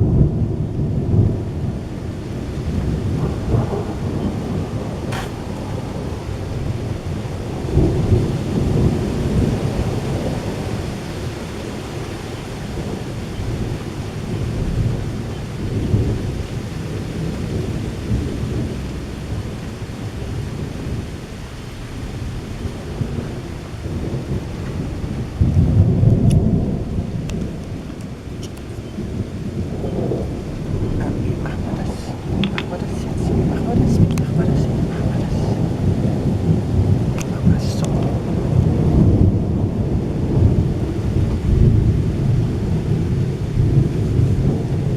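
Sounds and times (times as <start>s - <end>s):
steady rain: 0.0s - 44.9s
thunder rumbling: 0.0s - 44.9s.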